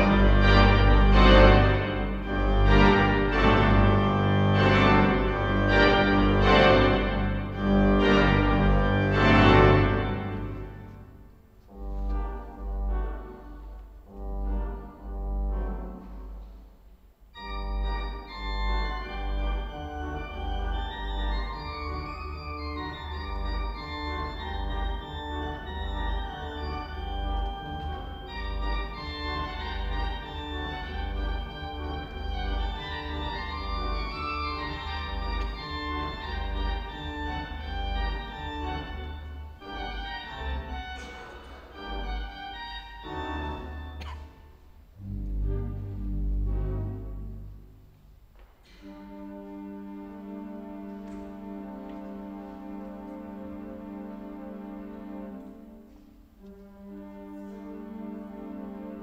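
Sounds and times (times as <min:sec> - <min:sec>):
pipe organ playing: 0:00.0 - 0:48.3, 0:48.9 - 0:59.0.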